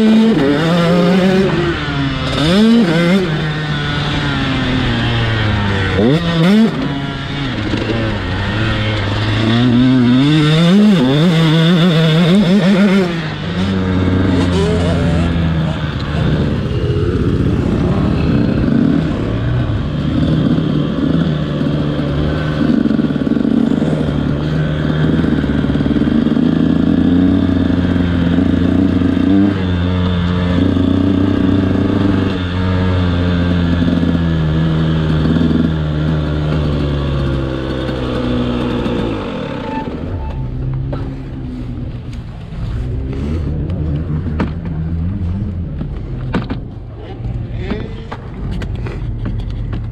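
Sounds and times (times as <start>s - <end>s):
two-stroke motocross engine running: 0.0s - 49.9s.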